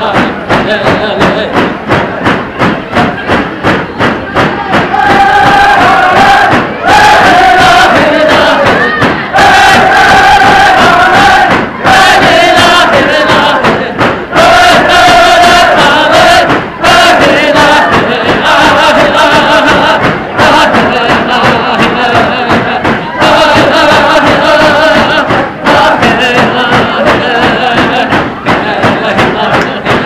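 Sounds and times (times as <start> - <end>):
crowd: 0.0 - 30.0
hand drums beating: 0.0 - 30.0
men chanting in unison: 4.9 - 30.0.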